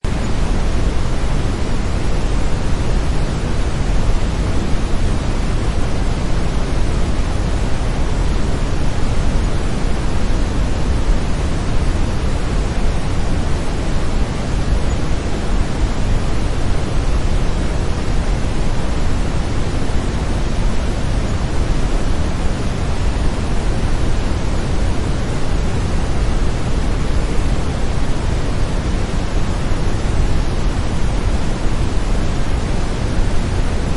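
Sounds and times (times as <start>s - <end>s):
brown noise: 0.0s - 33.9s.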